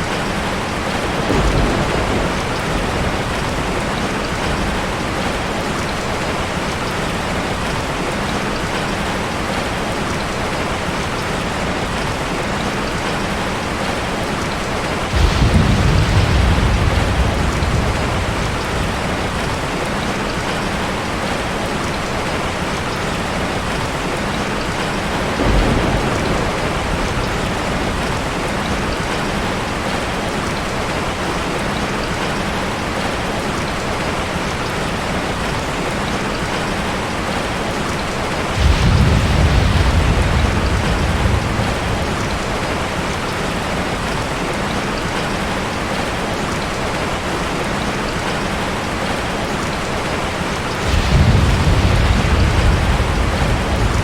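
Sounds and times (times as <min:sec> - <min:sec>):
thunder rumbles: 0:00.0 - 0:09.6, 0:10.5 - 0:21.9, 0:22.5 - 0:31.3, 0:34.9 - 0:45.9, 0:50.1 - 0:54.0
steady rain: 0:00.0 - 0:54.0.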